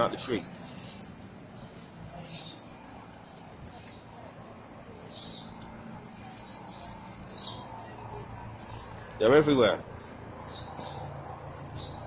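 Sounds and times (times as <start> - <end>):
low background hum: 0.0 - 12.0
wagtails chirping: 0.0 - 12.0.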